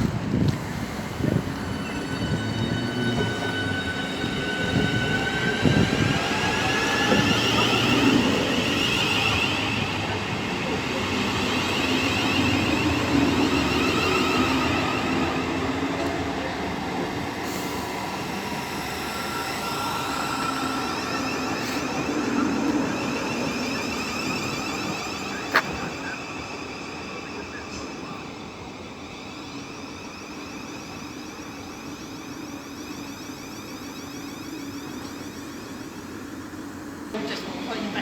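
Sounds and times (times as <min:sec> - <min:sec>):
electric train running: 0:00.0 - 0:38.0.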